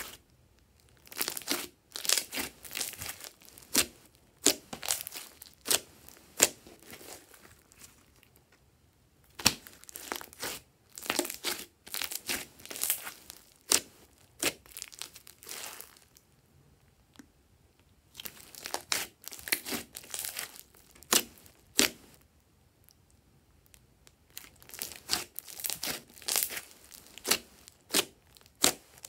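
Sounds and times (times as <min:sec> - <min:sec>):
sticky slime squelches: 0:00.0 - 0:08.6, 0:09.2 - 0:16.2, 0:18.0 - 0:22.2, 0:22.8 - 0:29.0.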